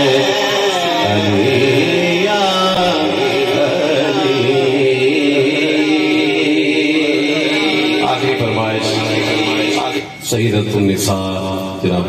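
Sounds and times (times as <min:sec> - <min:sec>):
man singing over a pa system: 0:00.0 - 0:12.0.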